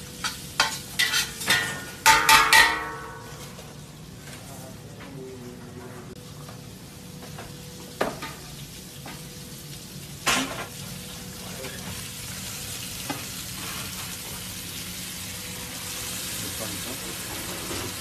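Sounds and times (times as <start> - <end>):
fish and onion sizzling in oil: 0.0 - 4.2, 6.3 - 18.0.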